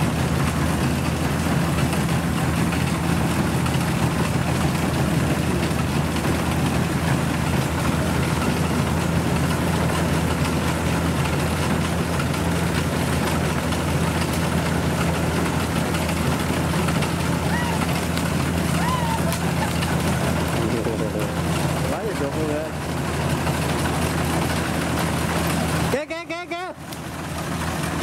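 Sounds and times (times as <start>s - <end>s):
combine harvester engine droning: 0.0s - 28.0s.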